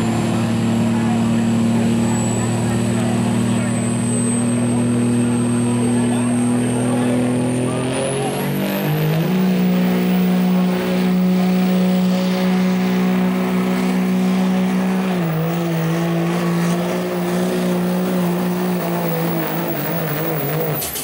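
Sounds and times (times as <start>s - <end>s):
diesel engine at high revs: 0.0s - 21.0s.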